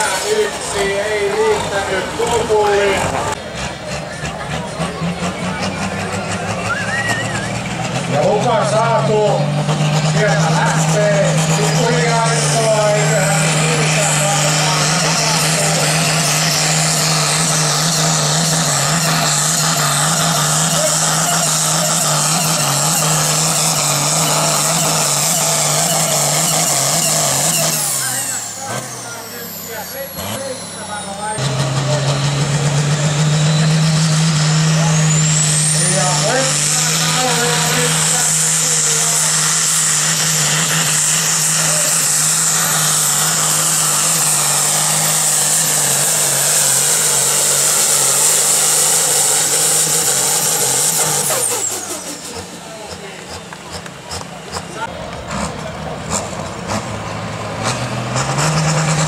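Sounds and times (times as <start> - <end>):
tractor diesel engine under heavy load: 0.0 - 59.0.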